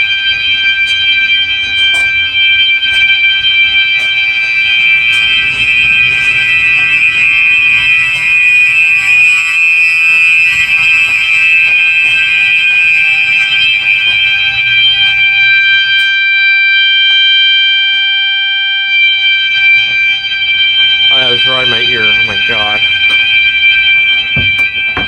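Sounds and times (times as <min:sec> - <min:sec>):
fire alarm horns: 0:00.0 - 0:25.0.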